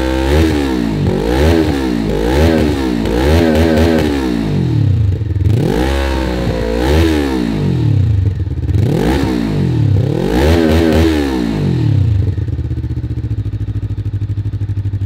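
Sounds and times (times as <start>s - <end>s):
motorcycle engine idling: 0.0s - 10.6s, 11.4s - 15.0s
motorcycle engine revving: 0.0s - 15.0s.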